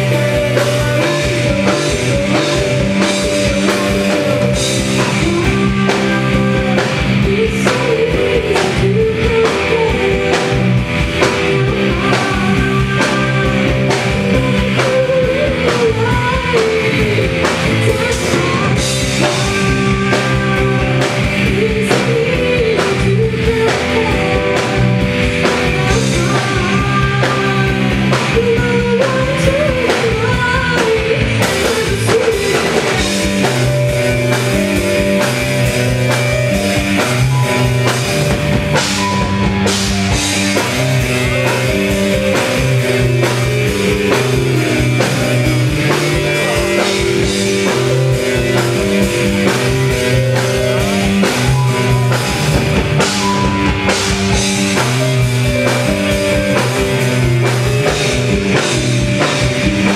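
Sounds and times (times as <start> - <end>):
drum kit beat: 0.0 - 59.9
live rock band playing: 0.0 - 59.9
person singing: 0.0 - 59.9.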